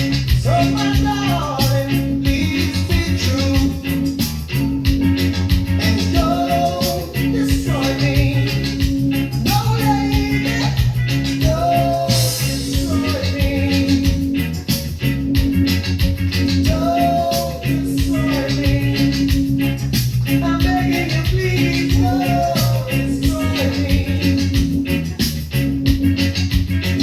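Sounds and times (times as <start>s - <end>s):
reggae song: 0.0s - 27.0s.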